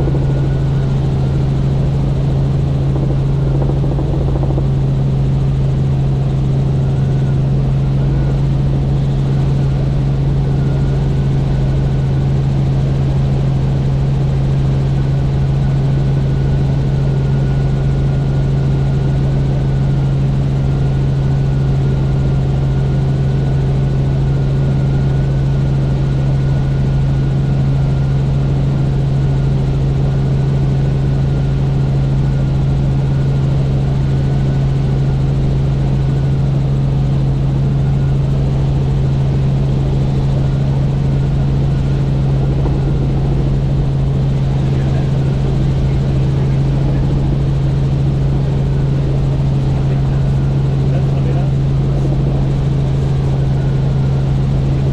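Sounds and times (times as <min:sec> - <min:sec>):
faint wavering whine: 0:00.0 - 0:25.6, 0:32.2 - 0:54.9
helicopter rotor and engine drone: 0:00.0 - 0:54.9.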